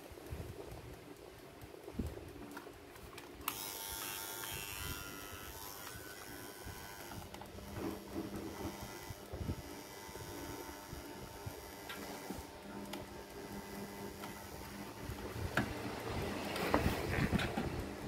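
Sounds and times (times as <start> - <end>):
small electric motor whirring: 1.9 - 18.0.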